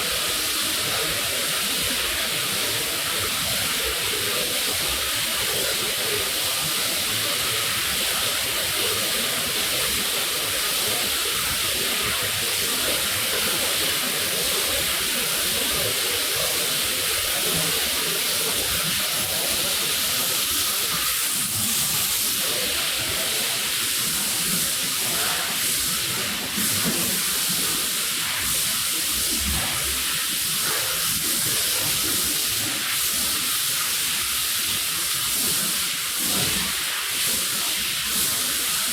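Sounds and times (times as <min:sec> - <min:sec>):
water spraying onto a rug: 0:00.0 - 0:38.9.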